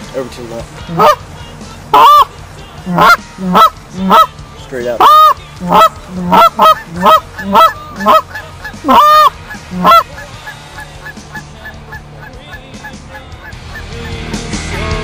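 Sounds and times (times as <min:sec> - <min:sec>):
geese honking: 0:00.8 - 0:14.4.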